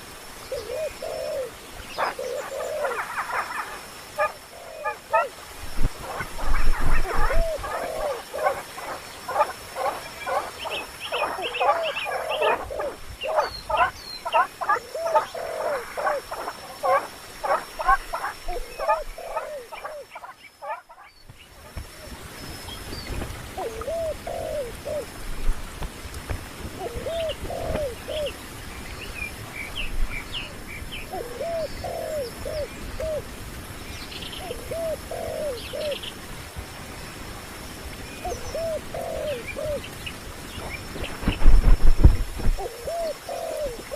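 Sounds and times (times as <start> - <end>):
birds chirping: 0.4 - 25.1, 26.8 - 33.2, 33.9 - 36.2, 38.0 - 41.8, 42.4 - 43.9.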